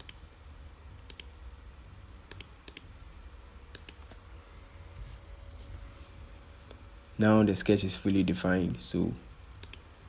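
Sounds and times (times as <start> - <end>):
background hum: 0.0 - 10.0
thin high whine: 0.0 - 10.0.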